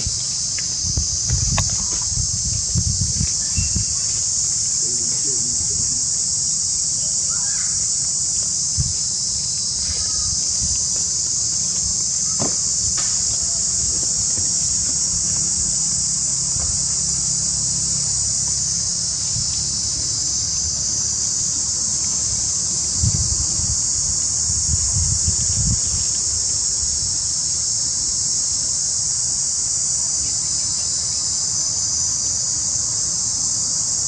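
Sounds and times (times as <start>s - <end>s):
insect chorus drone: 0.0s - 34.0s.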